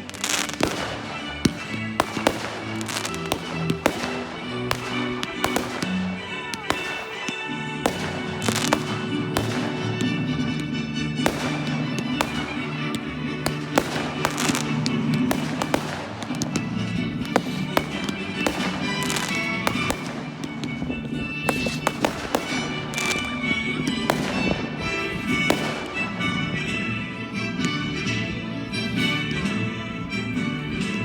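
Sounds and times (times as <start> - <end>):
fireworks bangs and crackles: 0.0 - 31.0
music playing: 0.0 - 31.0.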